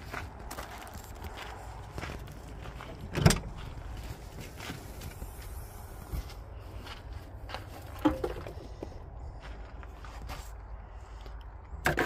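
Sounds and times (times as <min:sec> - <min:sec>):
footsteps on gravel: 0:00.0 - 0:11.4.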